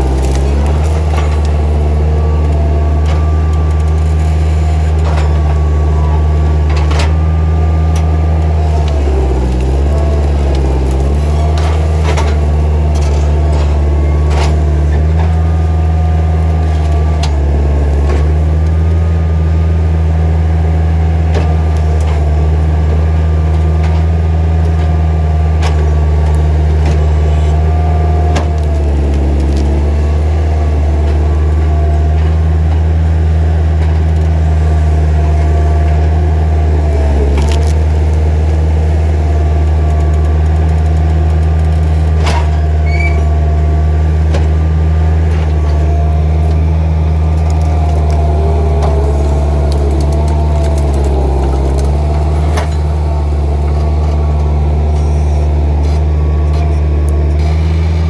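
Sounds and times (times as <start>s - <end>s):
skid steer engine droning: 0.0s - 58.0s.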